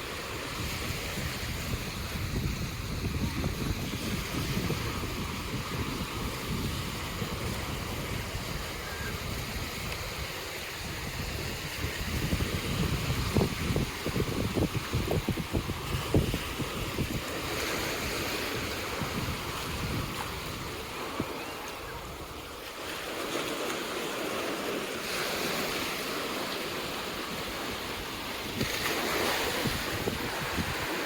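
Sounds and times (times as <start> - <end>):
wind rumbling on microphone: 0.0 - 23.2, 24.6 - 31.0
ocean surf washing onto beach: 0.0 - 31.0.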